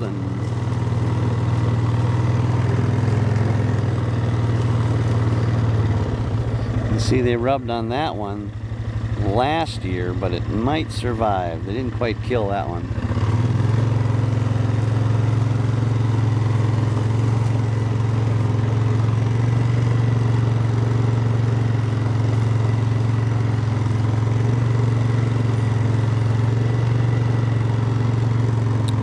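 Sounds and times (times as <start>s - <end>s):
engine droning steadily: 0.0s - 29.0s.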